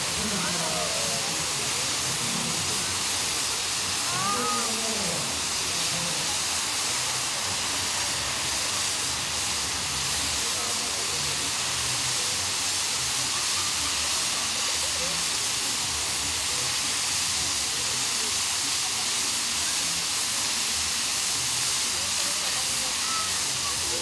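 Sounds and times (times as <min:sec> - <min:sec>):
firework fountains hissing: 0:00.0 - 0:24.0.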